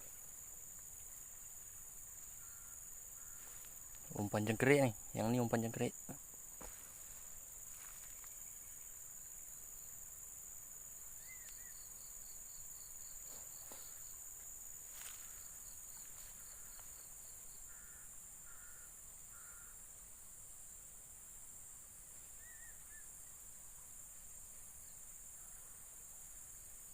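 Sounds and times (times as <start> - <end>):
high-pitched insect drone: 0.0 - 20.7, 22.2 - 26.9
cricket-like chirps: 0.0 - 26.9.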